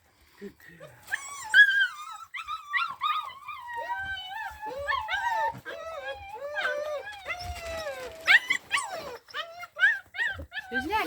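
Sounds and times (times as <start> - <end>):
puppies whining: 1.0 - 11.0.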